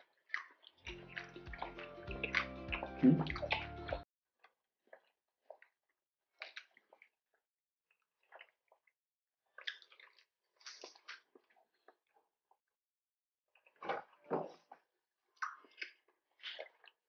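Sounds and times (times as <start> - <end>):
chewing crispy fried food: 0.0 - 4.0, 4.9 - 12.6, 13.5 - 17.0.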